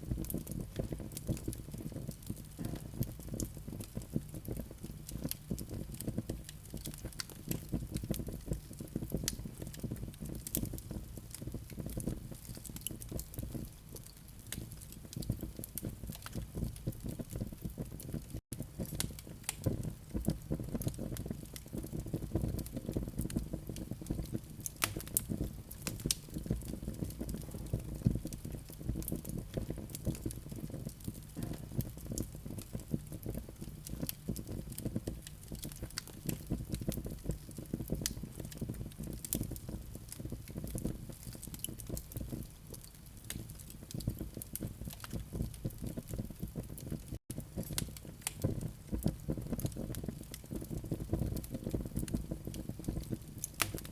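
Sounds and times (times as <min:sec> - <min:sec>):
low rush of burning fire: 0:00.0 - 0:53.9
wood fire crackling and popping: 0:00.0 - 0:53.9.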